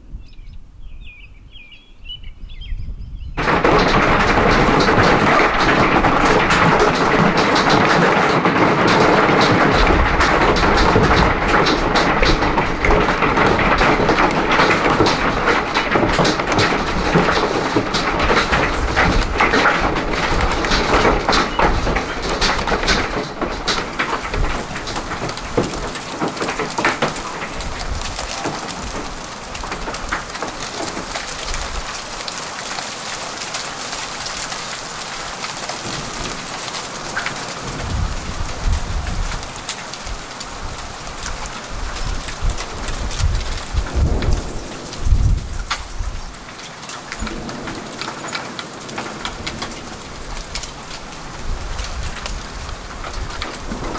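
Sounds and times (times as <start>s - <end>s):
hailstones clattering: 3.4s - 53.9s
steady rain patter: 3.4s - 53.9s.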